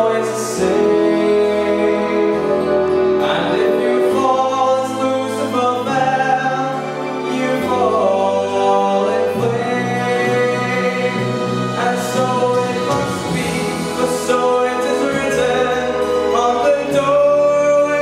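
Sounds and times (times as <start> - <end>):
orchestral backing track: 0.0 - 18.0
young man singing ballad: 0.0 - 18.0.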